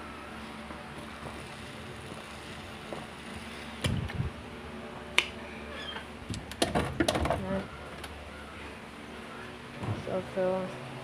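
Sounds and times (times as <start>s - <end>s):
refrigerator humming: 0.0s - 11.0s.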